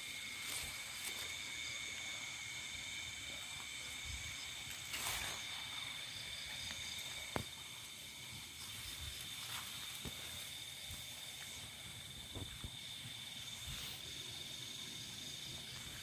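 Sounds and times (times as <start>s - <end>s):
night insects calling: 0.0s - 16.0s
rustle: 0.0s - 16.0s.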